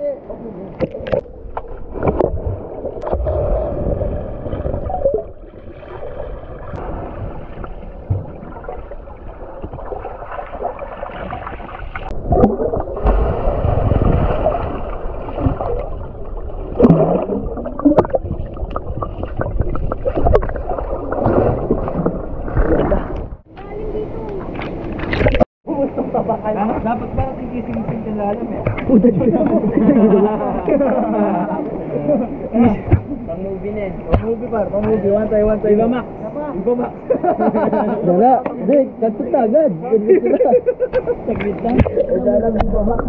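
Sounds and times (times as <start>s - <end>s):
muffled underwater churning water: 0.7s - 37.9s.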